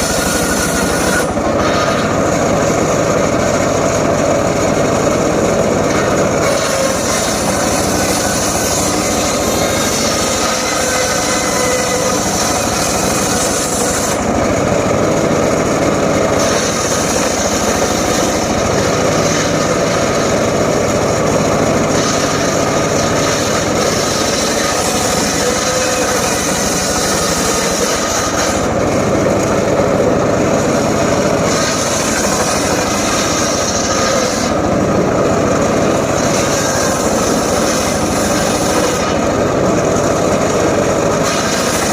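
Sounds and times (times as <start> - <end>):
circular saw cutting wood: 0.0 - 41.9.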